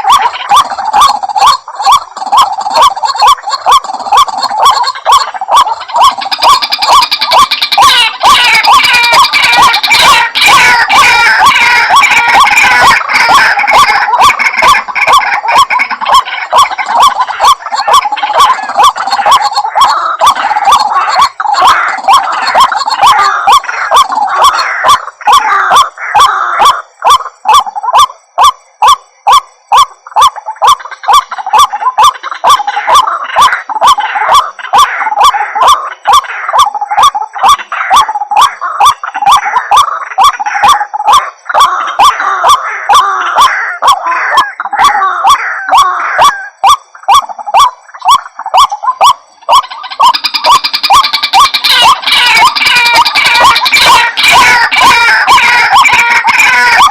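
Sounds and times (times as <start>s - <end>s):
bird harsh croaking calls: 0.0s - 56.9s.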